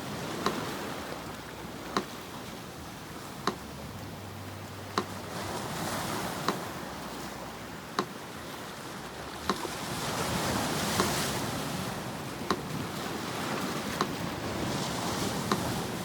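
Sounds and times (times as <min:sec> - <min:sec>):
metronome ticking slowly: 0:00.0 - 0:16.0
sea surf washing: 0:00.0 - 0:16.0.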